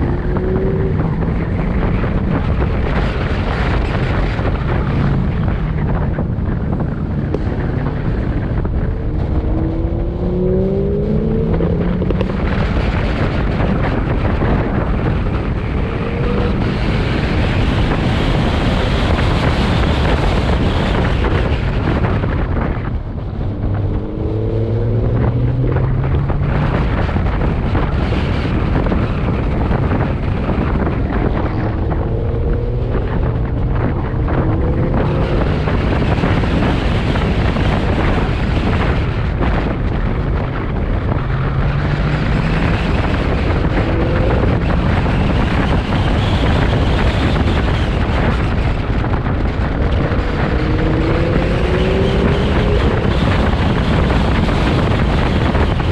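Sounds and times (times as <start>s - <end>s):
car engine accelerating hard: 0.0s - 55.9s
road noise: 0.0s - 55.9s
wind noise on microphone: 0.0s - 55.9s.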